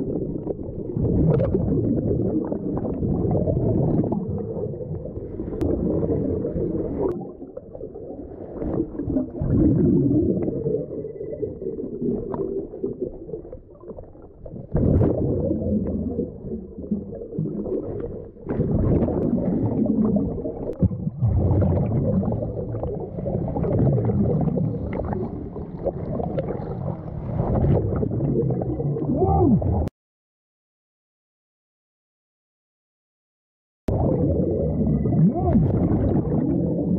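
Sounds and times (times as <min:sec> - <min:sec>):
underwater rumbling and gurgling: 0:00.0 - 0:29.9, 0:33.9 - 0:36.9.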